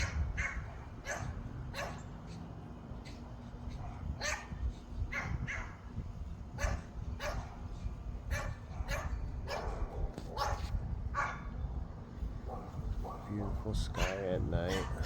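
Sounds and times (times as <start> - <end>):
dog barking: 0.0 - 2.4, 3.0 - 5.8, 6.6 - 7.7, 8.3 - 11.5, 12.4 - 15.0
steady low rumble: 0.0 - 15.0.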